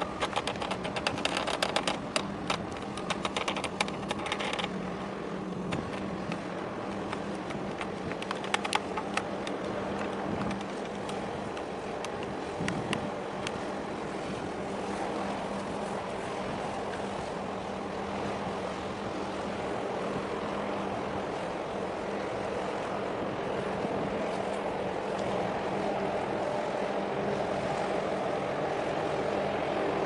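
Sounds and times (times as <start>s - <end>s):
ship engine low hum: 0.0s - 30.0s
water noise: 0.0s - 30.0s
wind: 0.0s - 30.0s.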